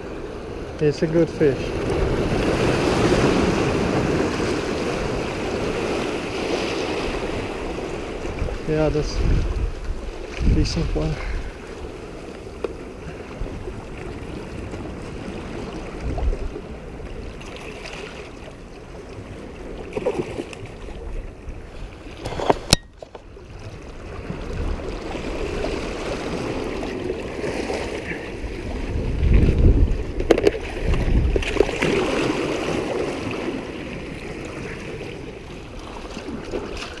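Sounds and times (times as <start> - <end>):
waves splashing over rocks: 0.0 - 37.0.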